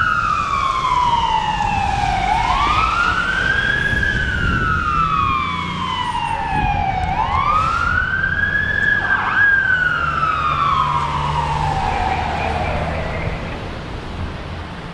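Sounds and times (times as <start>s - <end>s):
fire engine siren wailing: 0.0s - 13.8s
truck engine rumble: 0.0s - 14.9s.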